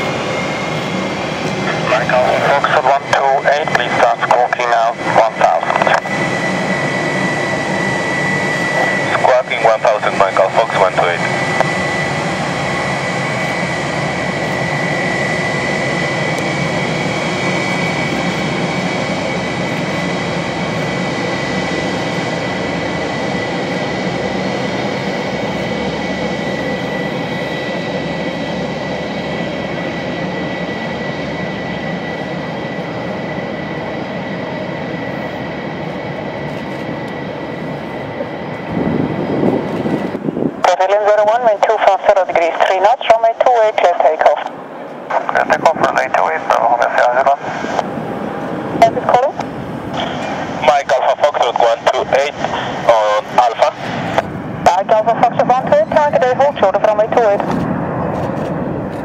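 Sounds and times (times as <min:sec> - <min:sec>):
jet engines rushing with high whine: 0:00.0 - 0:59.0.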